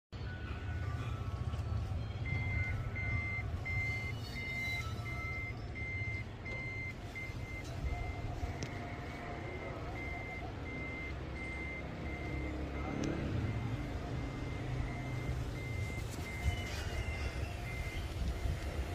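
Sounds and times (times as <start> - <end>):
electronic warning beeper: 2.1 - 18.9.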